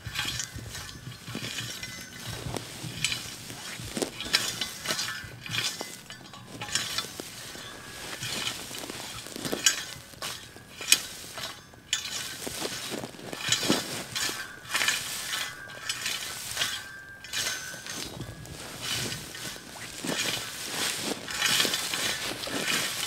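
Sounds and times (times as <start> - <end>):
metal rake scraping wood chips: 0.0 - 23.0
sharp clinks: 0.0 - 23.0.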